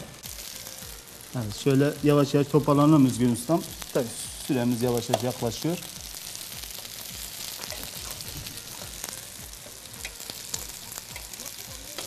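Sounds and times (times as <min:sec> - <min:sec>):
chicken wings sizzling on grill: 0:00.0 - 0:12.0.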